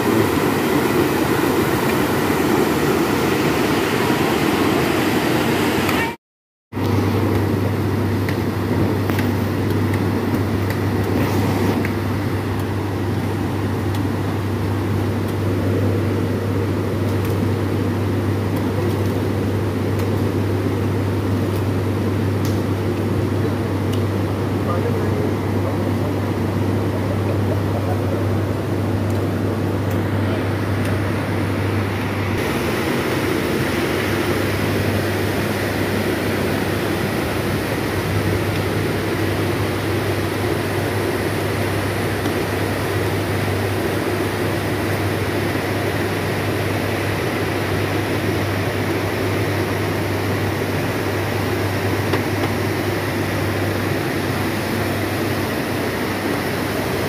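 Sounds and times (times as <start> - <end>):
machine drone with low hum: 0.0 - 6.1, 6.8 - 57.0
broad rushing noise: 0.0 - 57.0.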